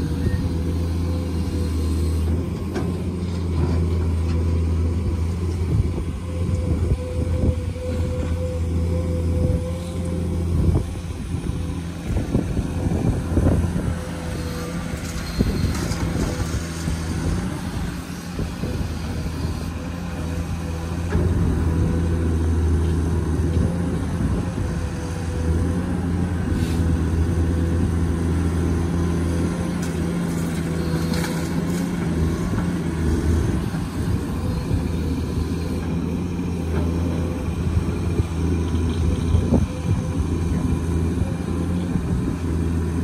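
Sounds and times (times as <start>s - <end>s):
excavator diesel engine droning: 0.0s - 43.0s.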